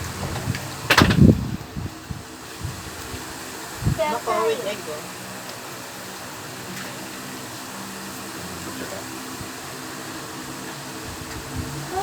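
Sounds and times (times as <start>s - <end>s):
fan machine hum and hiss: 0.0s - 12.0s.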